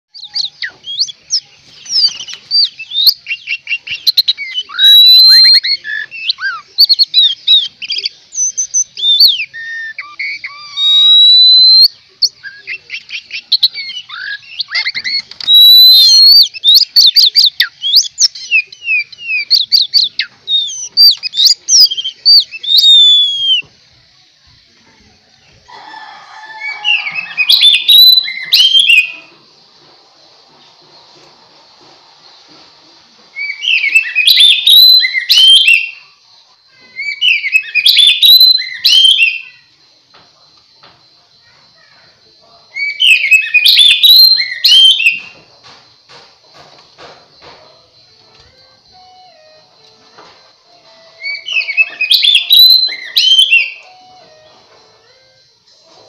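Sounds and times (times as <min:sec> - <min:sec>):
songbird whistling and chirping: 0:00.1 - 0:23.7, 0:25.5 - 0:29.4, 0:33.3 - 0:39.7, 0:42.7 - 0:45.4, 0:47.4 - 0:56.0.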